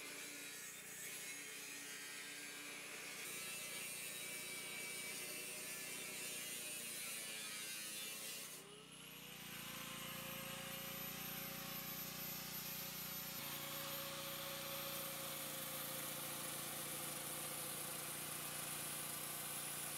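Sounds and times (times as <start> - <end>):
angle grinder cutting steel: 0.0 - 19.9.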